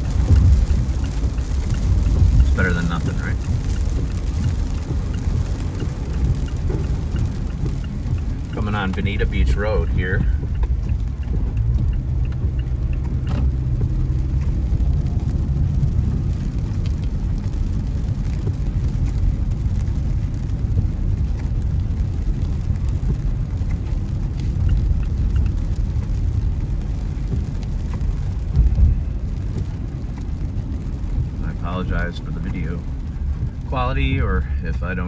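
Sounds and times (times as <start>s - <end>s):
faint ticks: 0.0s - 33.6s
car and tyres rumbling on wet road: 0.0s - 35.0s.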